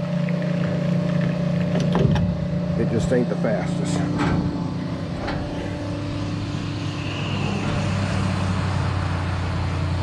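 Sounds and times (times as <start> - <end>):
fuel pump humming: 0.0 - 10.0.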